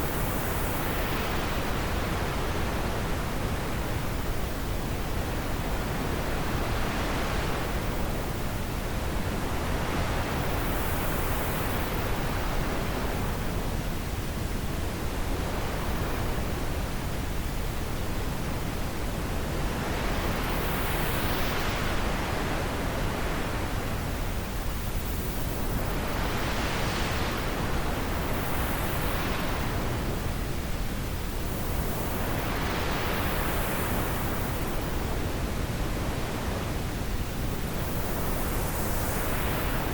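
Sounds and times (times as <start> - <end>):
wind blowing in gusts: 0.0 - 39.9.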